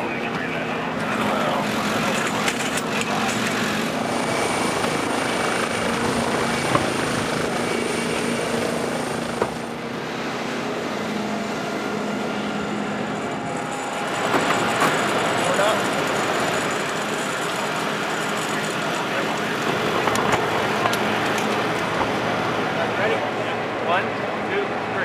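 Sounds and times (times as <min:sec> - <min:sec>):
helicopter drone: 0:00.0 - 0:25.0.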